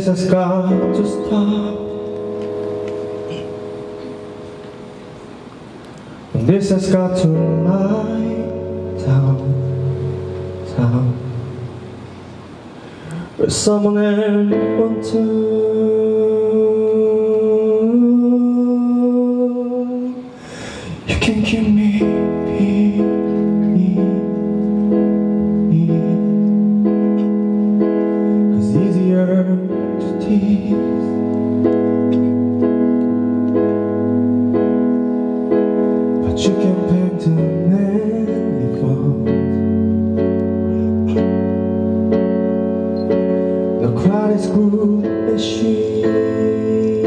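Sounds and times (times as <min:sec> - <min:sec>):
keyboard piano chords: 0:00.0 - 0:47.0.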